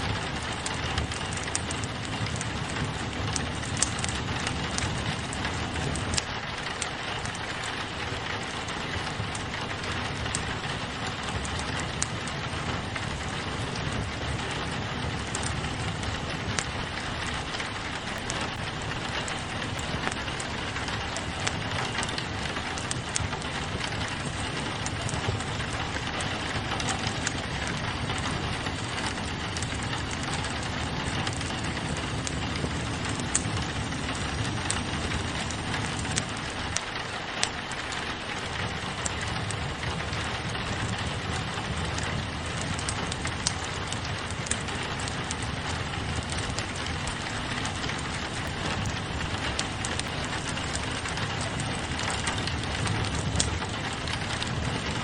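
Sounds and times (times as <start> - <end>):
rain pattering on window glass: 0.0 - 55.0
wood fire crackling: 0.0 - 55.0.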